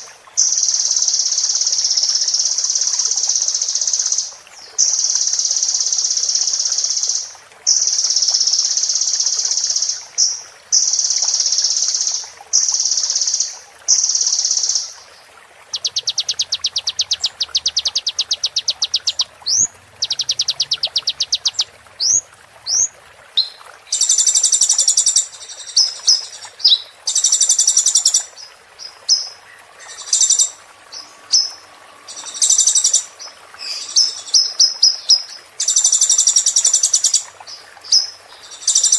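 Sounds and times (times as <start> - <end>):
sunbird song: 0.0 - 38.9.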